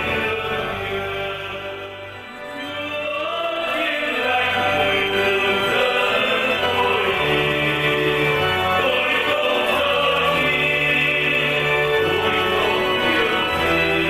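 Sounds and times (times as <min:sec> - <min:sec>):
hymn sung with instruments: 0:00.0 - 0:14.0.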